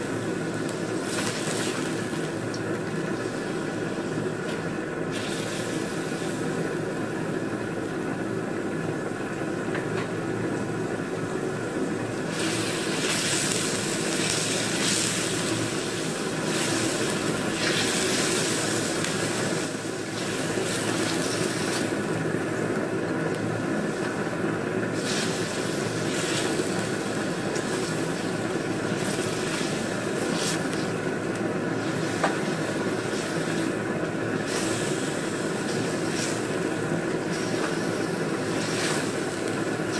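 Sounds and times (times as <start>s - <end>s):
meat sizzling in hot oil: 0.0s - 6.9s, 12.2s - 39.9s.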